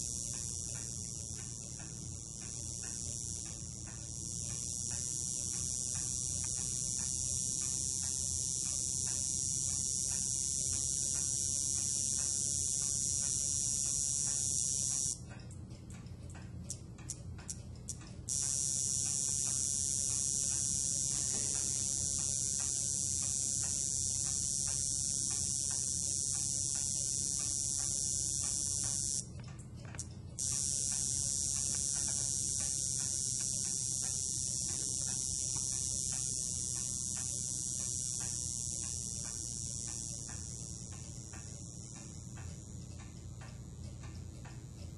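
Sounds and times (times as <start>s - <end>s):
high-pitched transformer buzz: 0.0s - 44.9s
sharp clicks: 0.0s - 44.9s.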